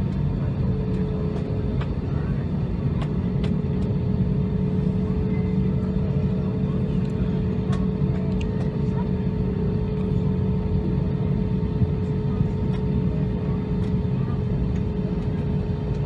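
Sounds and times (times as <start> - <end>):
aircraft engine rumble and hum: 0.0 - 16.0.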